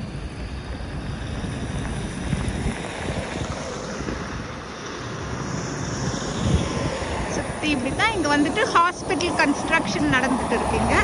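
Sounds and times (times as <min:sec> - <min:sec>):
highway traffic: 0:00.0 - 0:11.0
wind buffeting microphone: 0:00.0 - 0:11.0.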